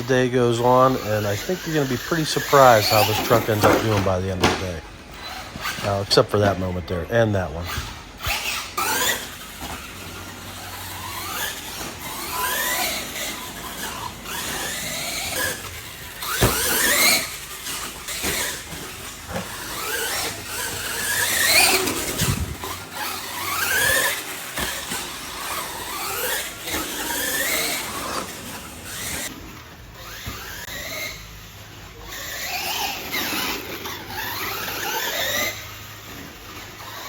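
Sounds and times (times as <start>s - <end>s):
electric toy truck motors whining: 0.0s - 37.0s.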